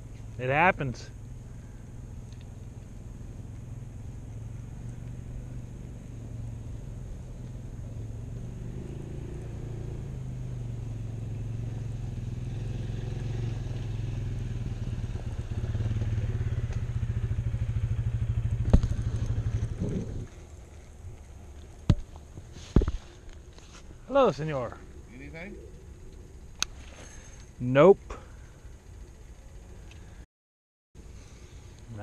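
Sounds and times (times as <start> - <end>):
vehicle engine running at low revs: 0.0 - 30.2.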